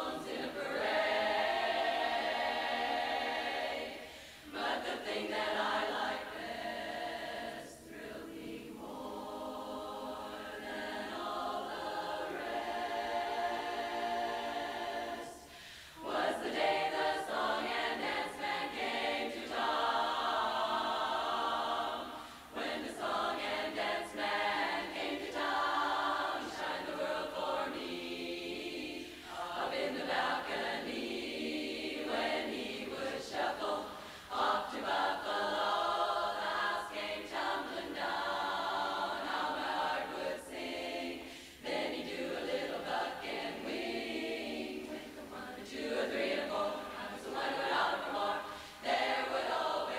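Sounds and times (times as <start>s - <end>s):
women's chorus singing a cappella: 0.0s - 49.9s.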